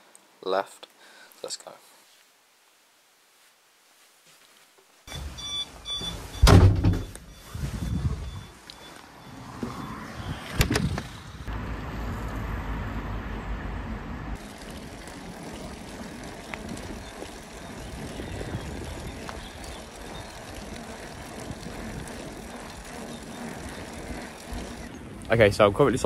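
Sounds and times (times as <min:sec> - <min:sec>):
wind and tyre noise: 0:05.1 - 0:26.0.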